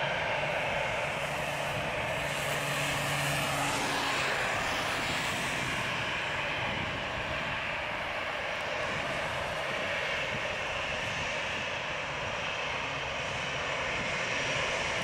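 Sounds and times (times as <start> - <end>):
jet engine whine and hiss: 0.0 - 15.0.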